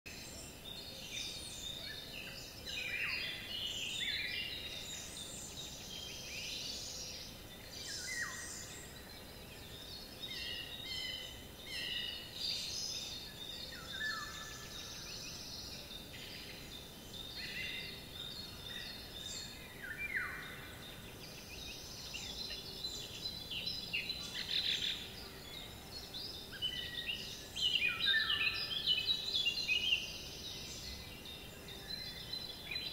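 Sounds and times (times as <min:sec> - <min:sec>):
bird singing: 0:00.1 - 0:32.9
many overlapping bird calls: 0:00.1 - 0:32.9.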